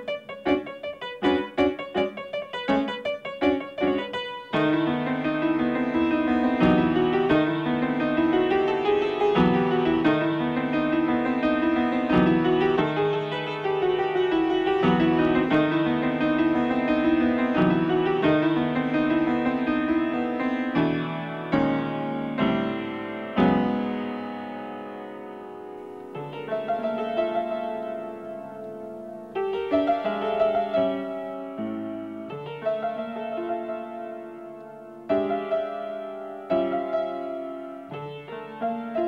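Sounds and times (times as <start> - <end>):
silent-film style piano: 0.0 - 39.0.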